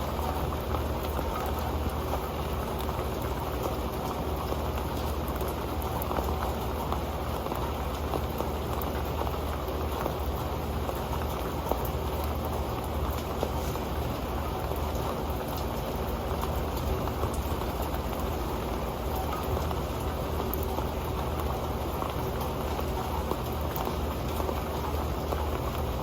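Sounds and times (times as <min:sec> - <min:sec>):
rain pattering on a metal pan: 0:00.0 - 0:26.0.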